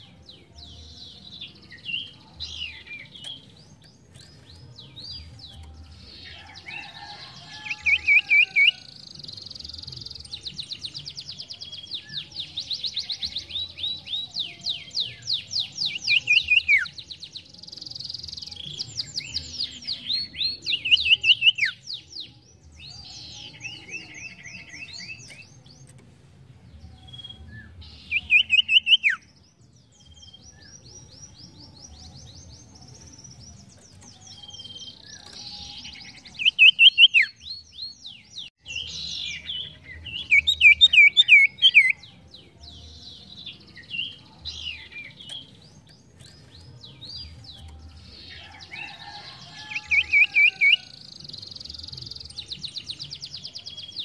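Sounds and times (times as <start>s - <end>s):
songbird singing trills: 0.0s - 54.0s.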